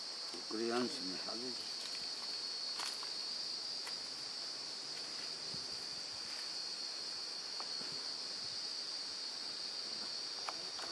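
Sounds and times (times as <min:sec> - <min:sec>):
insects shrilling: 0:00.0 - 0:10.9.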